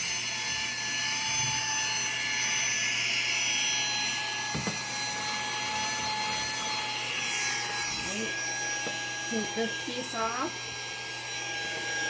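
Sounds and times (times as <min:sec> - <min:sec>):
handheld vacuum whining: 0:00.0 - 0:12.0.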